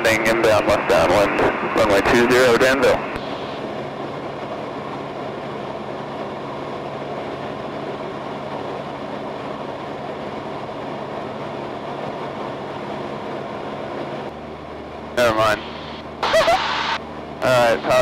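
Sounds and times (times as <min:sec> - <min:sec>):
small plane cabin engine drone: 0:00.0 - 0:18.0.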